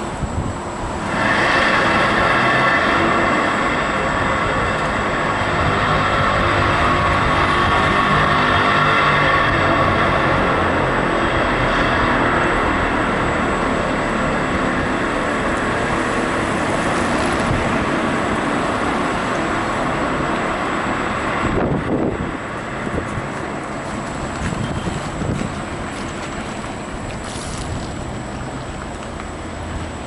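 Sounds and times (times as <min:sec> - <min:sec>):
engine hum: 0:00.0 - 0:30.0
passing traffic: 0:00.0 - 0:30.0
wind noise on microphone: 0:00.0 - 0:30.0.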